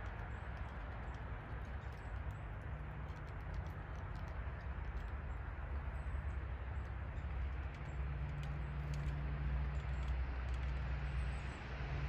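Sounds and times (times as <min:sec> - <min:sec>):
faint light ticks: 0:00.0 - 0:11.3
low engine-like rumble: 0:00.0 - 0:12.0.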